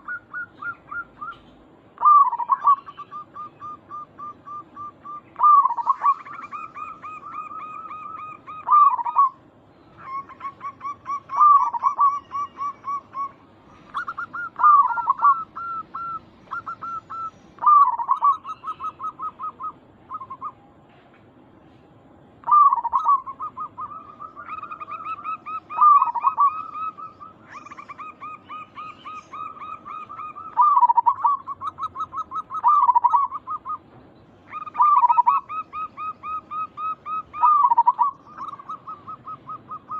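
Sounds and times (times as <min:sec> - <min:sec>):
dove swooping coo: 0:00.0 - 0:09.4, 0:10.0 - 0:20.6, 0:22.4 - 0:33.8, 0:34.5 - 0:39.9
doves calling staccato notes: 0:00.0 - 0:20.5, 0:22.4 - 0:39.9.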